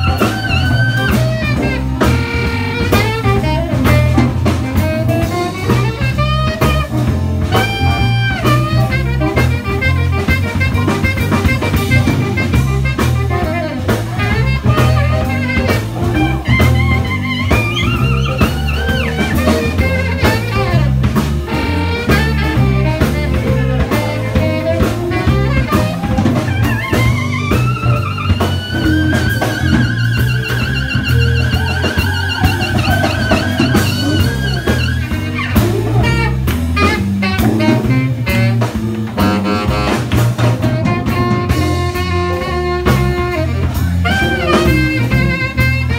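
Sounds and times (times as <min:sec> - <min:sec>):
harmonica: 0:00.0 - 0:06.7, 0:07.4 - 0:38.6
bass: 0:00.0 - 0:45.9
drum kit: 0:00.0 - 0:45.9
saxophone: 0:00.0 - 0:45.9.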